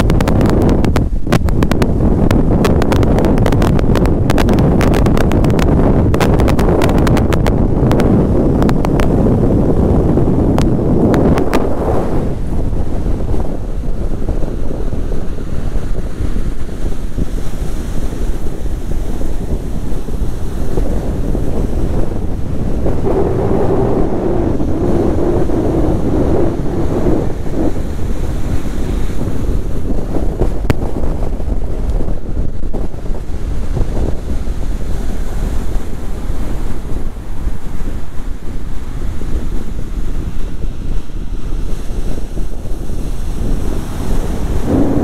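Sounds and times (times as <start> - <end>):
heavy surf breaking on beach: 0.0 - 45.0
wind buffeting microphone: 0.0 - 45.0.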